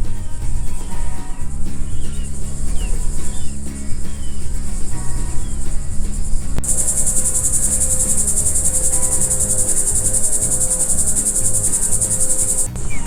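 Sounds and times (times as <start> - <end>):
low rumble: 0.0 - 13.0
shrill insect trill: 0.0 - 13.0.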